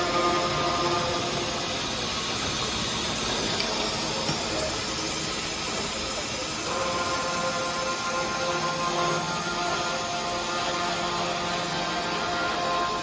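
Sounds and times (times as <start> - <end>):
pipe-cutting saw hissing: 0.0 - 13.0.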